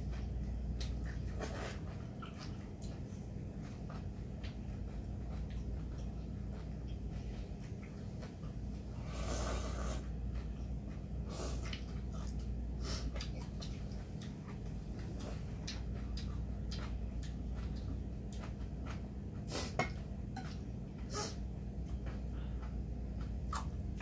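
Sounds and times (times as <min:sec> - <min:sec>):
chewing: 0:00.0 - 0:21.1, 0:21.8 - 0:24.0.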